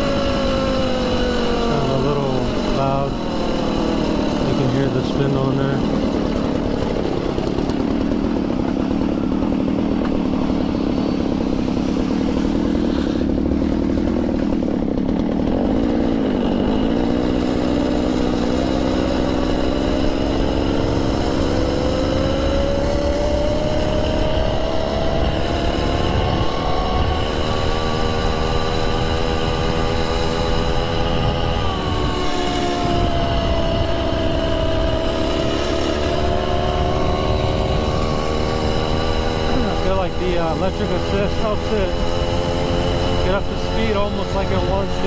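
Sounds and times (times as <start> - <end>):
small two-stroke engine running: 0.0 - 45.0.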